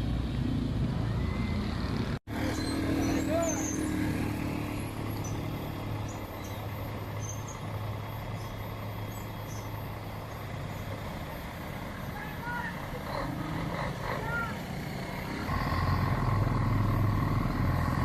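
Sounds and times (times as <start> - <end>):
road noise: 0.0 - 18.0
truck diesel engine droning: 0.0 - 18.0.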